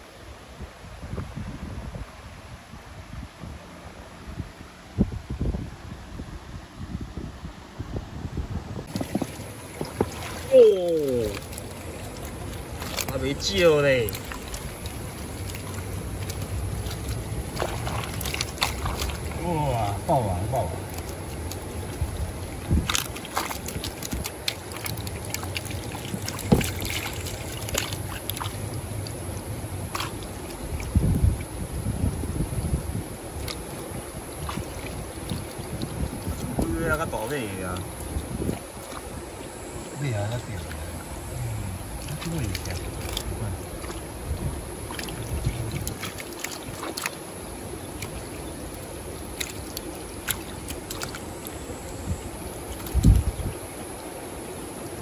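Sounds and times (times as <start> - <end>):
creek water running: 8.5 - 55.0
water splashes: 8.8 - 55.0.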